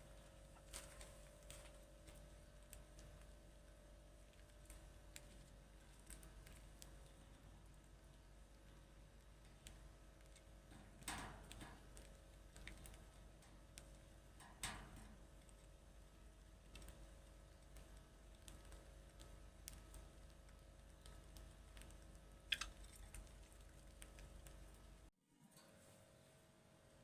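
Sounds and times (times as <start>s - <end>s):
faint scattered clicks: 0.2s - 25.1s.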